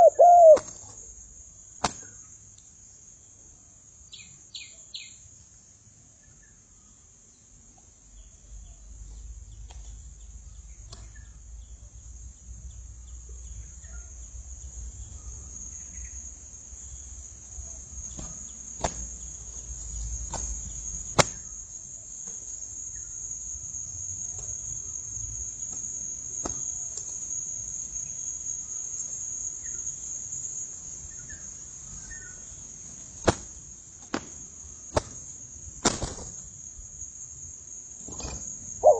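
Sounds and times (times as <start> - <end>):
insect chirring: 0.0 - 5.3, 8.2 - 38.9.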